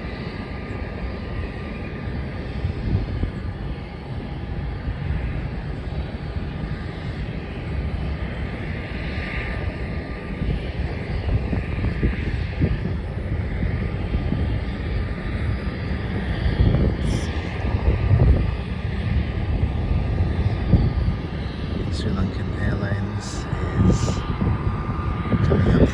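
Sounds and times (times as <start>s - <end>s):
distant jet engines rumbling: 0.0s - 25.9s.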